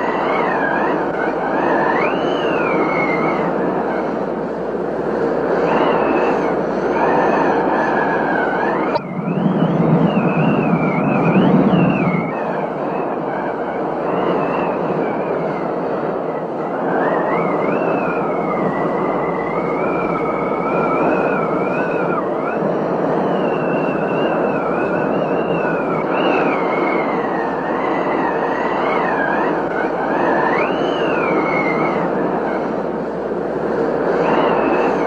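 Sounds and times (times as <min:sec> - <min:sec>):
wavering high whistle: 0:00.0 - 0:04.2, 0:05.6 - 0:32.8, 0:34.2 - 0:35.0.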